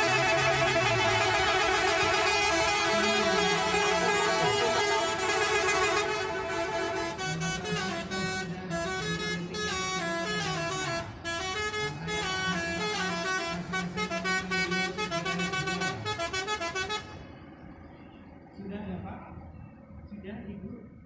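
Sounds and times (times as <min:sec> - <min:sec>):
multi-tone horn playing melody: 0:00.0 - 0:17.1.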